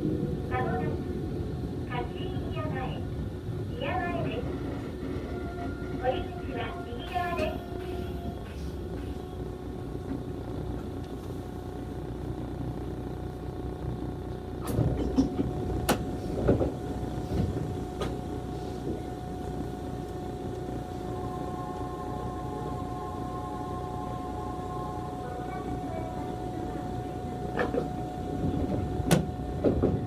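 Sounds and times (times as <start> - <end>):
train equipment humming: 0.0 - 30.0.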